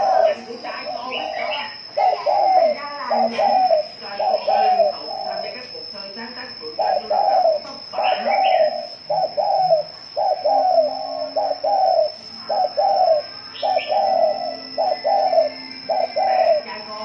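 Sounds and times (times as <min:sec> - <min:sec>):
dove cooing: 0:00.0 - 0:05.9, 0:06.5 - 0:17.0
thin steady high tone: 0:00.0 - 0:17.0.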